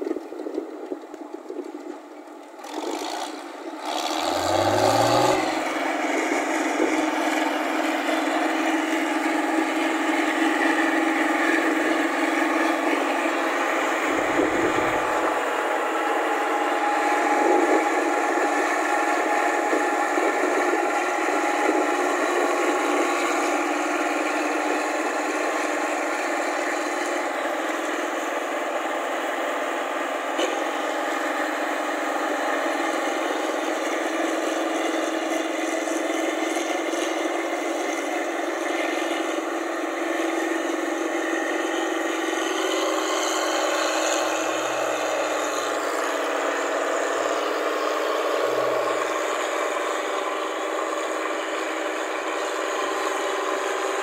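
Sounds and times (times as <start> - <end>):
diesel engine revving: 2.5 - 54.0.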